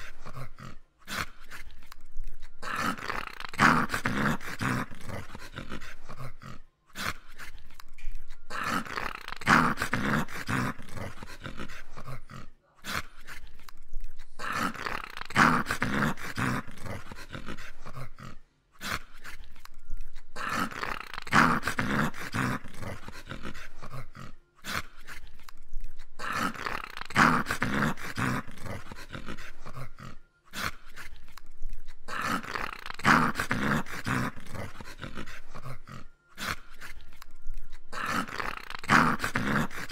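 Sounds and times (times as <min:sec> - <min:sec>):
dog play-growling: 0:00.0 - 0:39.9.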